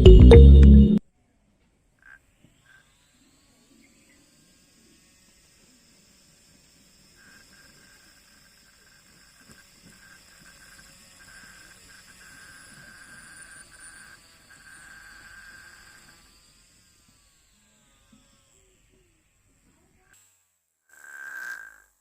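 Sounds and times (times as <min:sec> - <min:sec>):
small motor whining: 0:02.0 - 0:22.0.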